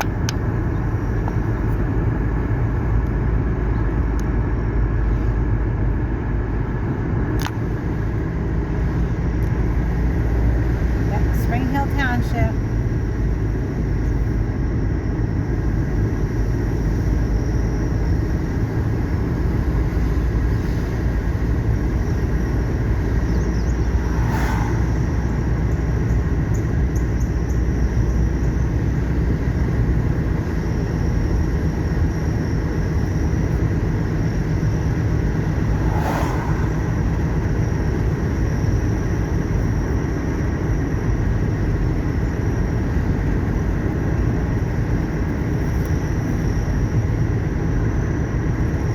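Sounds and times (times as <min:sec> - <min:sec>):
car tyre and engine rumble: 0:00.0 - 0:48.9.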